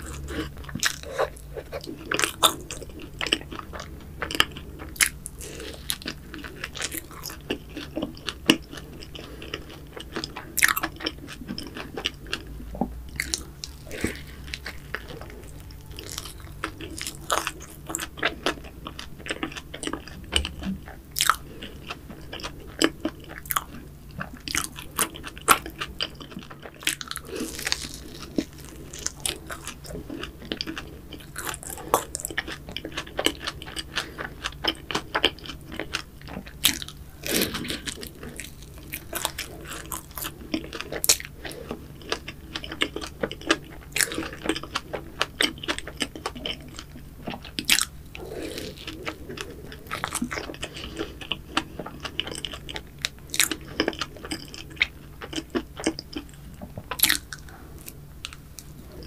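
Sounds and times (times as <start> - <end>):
chewing: 0.0 - 59.0
crisp pastry crunching: 0.0 - 59.0.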